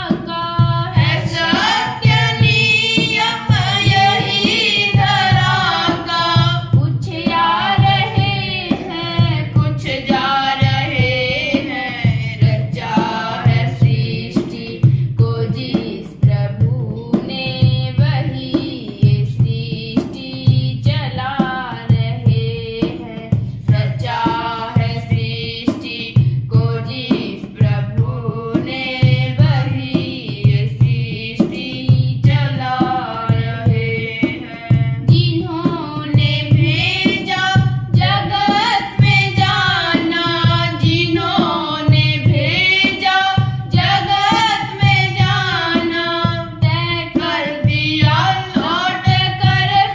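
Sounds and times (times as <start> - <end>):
steady drum beat: 0.0 - 49.9
woman singing devotional song: 0.0 - 49.9.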